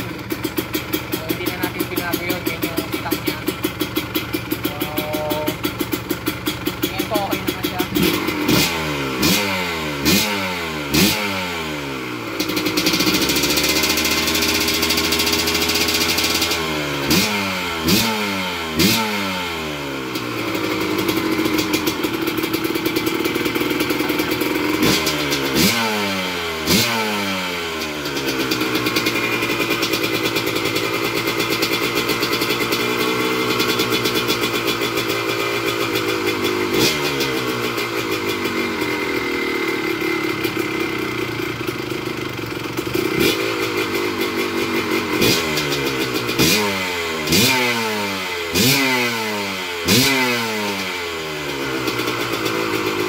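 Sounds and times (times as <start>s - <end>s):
two-stroke engine idling and revving: 0.0s - 53.0s.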